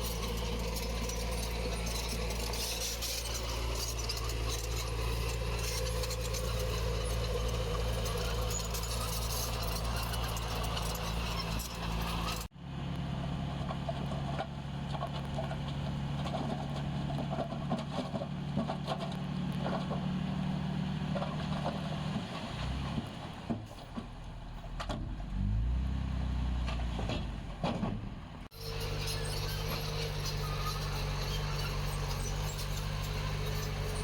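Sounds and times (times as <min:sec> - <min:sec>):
diesel engine under load: 0:00.0 - 0:34.0.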